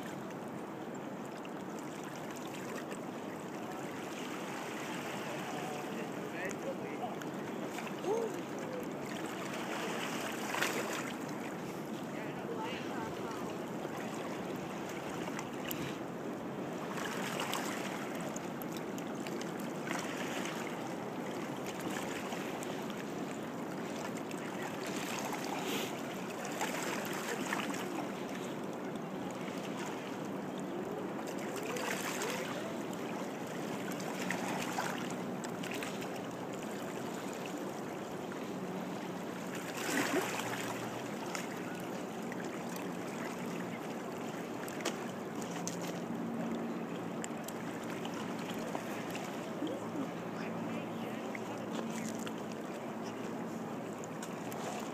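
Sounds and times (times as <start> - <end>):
water rushing along rocky shore: 0.0 - 54.9.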